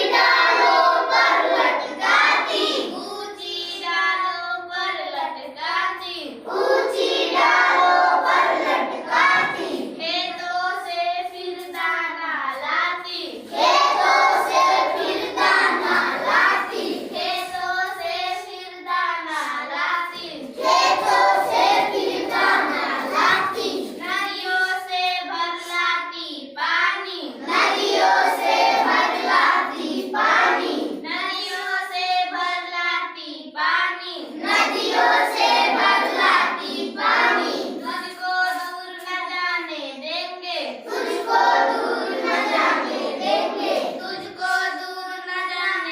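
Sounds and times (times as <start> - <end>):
child singing: 0.0 - 45.9.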